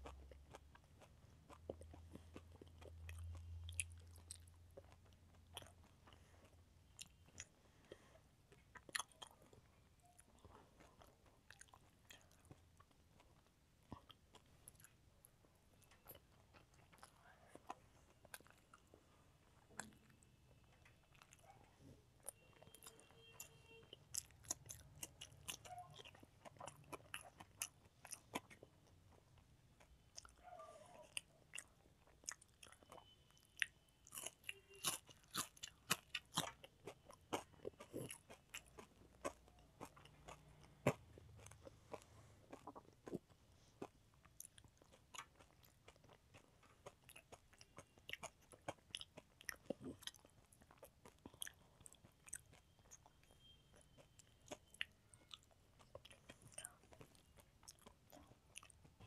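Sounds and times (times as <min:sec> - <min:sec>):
child chewing food: 0:00.0 - 0:59.0.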